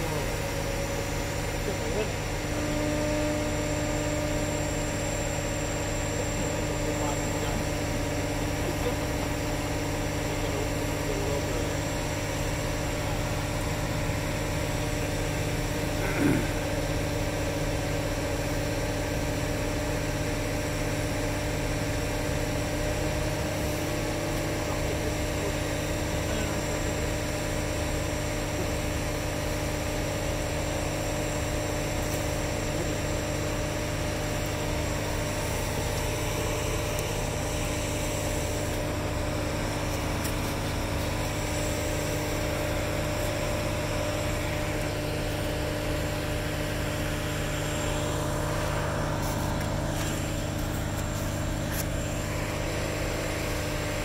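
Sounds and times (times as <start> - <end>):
machine engine droning: 0.0 - 54.0.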